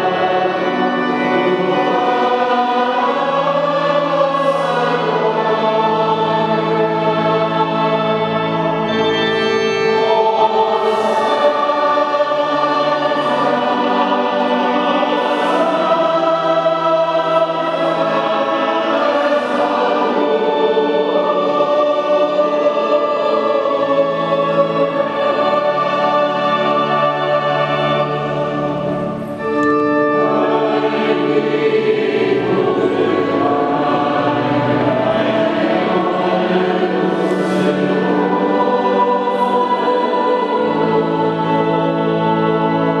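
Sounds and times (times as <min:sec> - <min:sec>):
church choir singing a hymn: 0:00.0 - 0:43.0.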